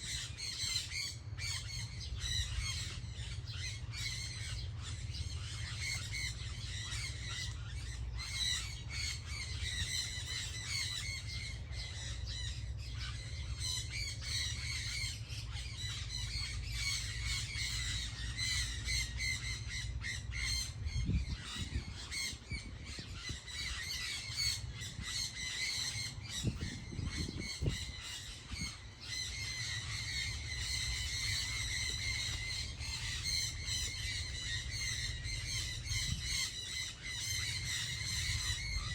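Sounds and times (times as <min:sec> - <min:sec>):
birds chirping and squawking: 0:00.0 - 0:38.9.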